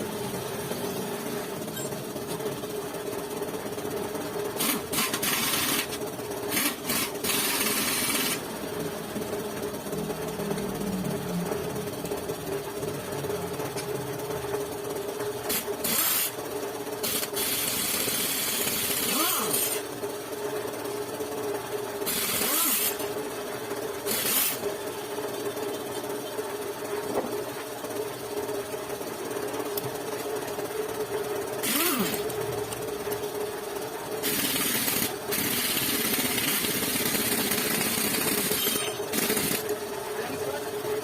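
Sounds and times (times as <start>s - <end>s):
machine running: 0.0s - 41.0s.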